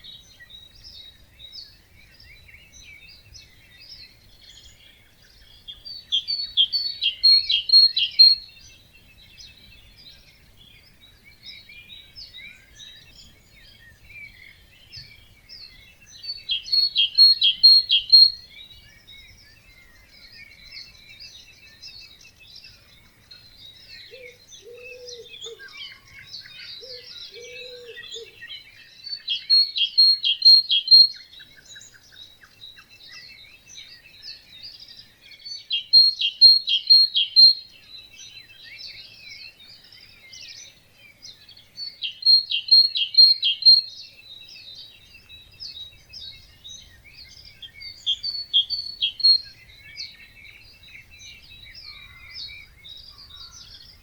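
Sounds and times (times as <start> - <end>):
lower bird call: 0.0 - 23.1, 23.8 - 44.0, 44.6 - 54.0
loud bright bird song: 0.0 - 54.0
many birds singing: 0.0 - 54.0.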